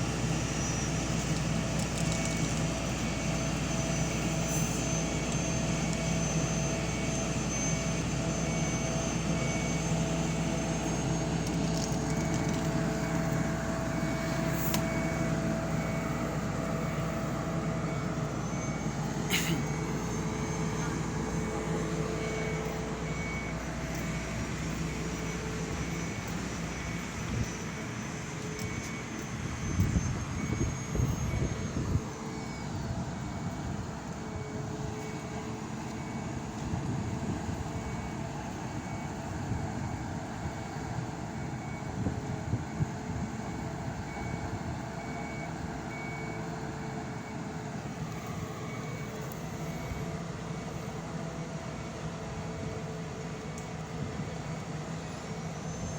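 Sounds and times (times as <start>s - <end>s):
heavy vehicle engine running: 0.0s - 55.9s
reversing beep alarm: 0.0s - 55.9s.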